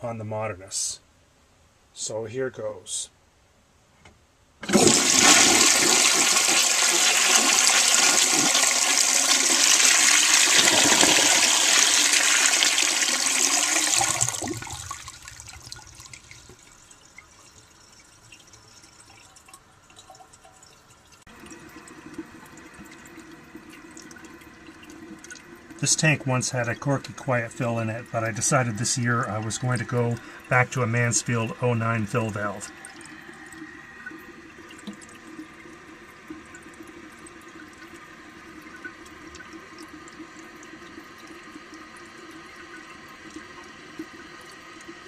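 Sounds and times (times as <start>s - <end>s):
fill valve humming: 4.6s - 45.0s
toilet flushing: 4.6s - 45.0s
water running into tank: 4.6s - 45.0s.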